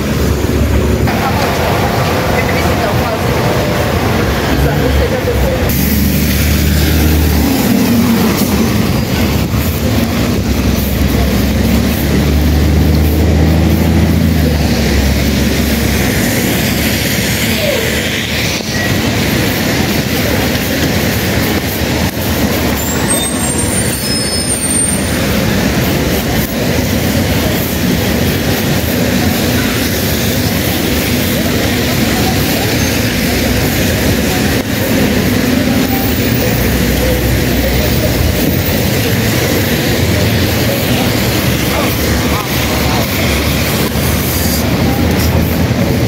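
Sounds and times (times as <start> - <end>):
bus diesel engine rumbling: 0.0 - 46.0
rain: 0.0 - 46.0
traffic on wet streets: 0.0 - 46.0
wind: 0.0 - 46.0.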